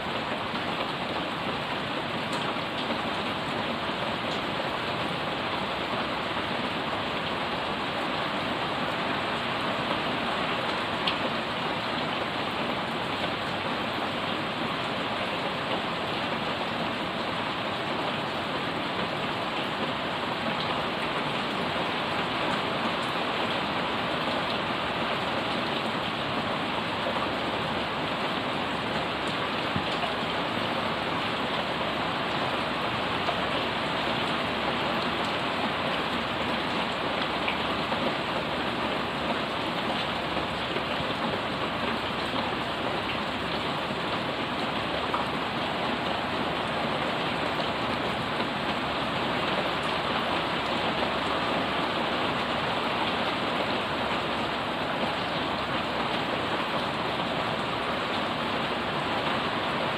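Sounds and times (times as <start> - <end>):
heavy rain on plants and pavement: 0.0 - 59.9.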